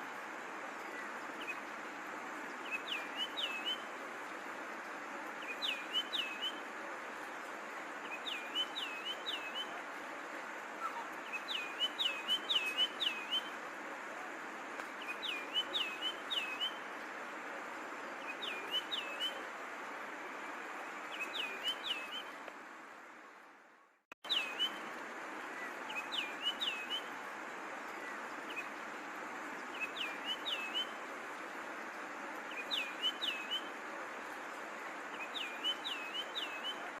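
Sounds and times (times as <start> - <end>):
background hiss: 0.0 - 37.0.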